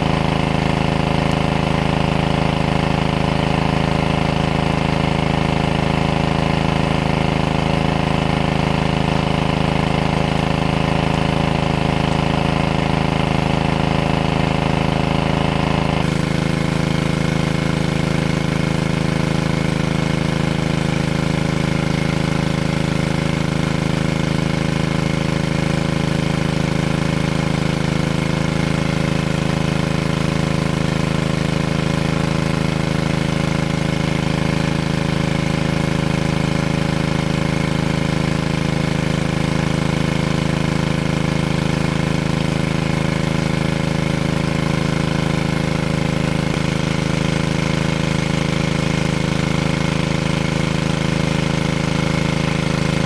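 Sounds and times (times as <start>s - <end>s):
small engine running: 0.0s - 53.0s.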